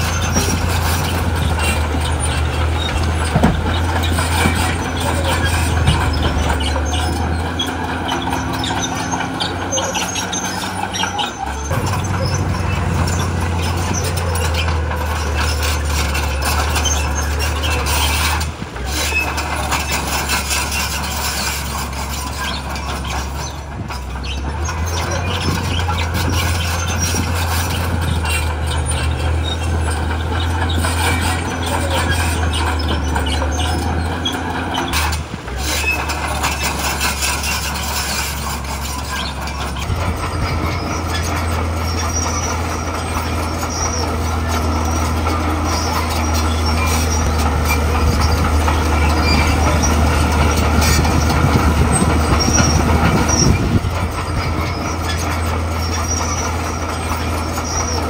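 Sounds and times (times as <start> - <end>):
bulldozer diesel engine running: 0.0 - 58.0
steel tracks clanking: 0.0 - 58.0.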